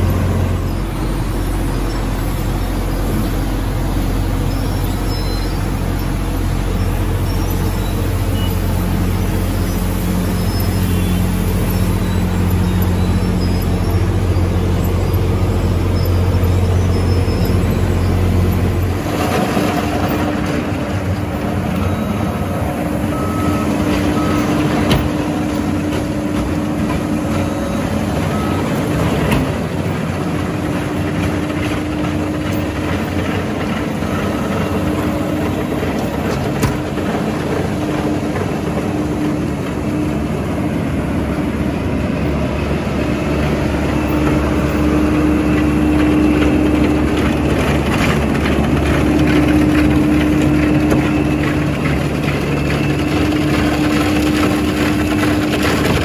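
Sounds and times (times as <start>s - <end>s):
diesel engines running under load: 0.0s - 56.0s
droning machine: 0.0s - 56.0s.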